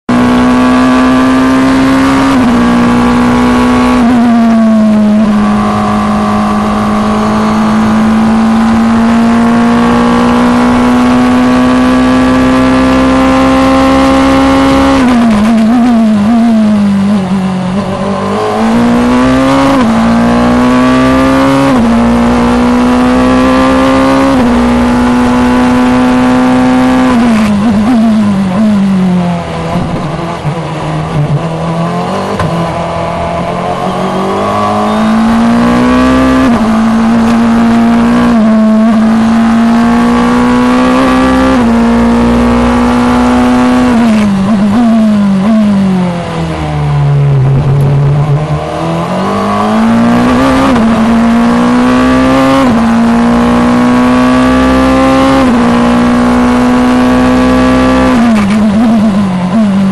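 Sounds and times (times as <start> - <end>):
racing car engine: 0.1 - 59.9
throttle blips on downshifts: 0.1 - 59.9.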